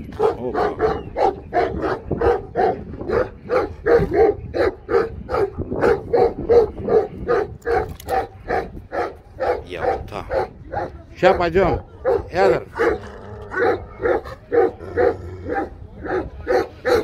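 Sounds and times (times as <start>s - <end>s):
dog barking fast: 0.1s - 17.0s.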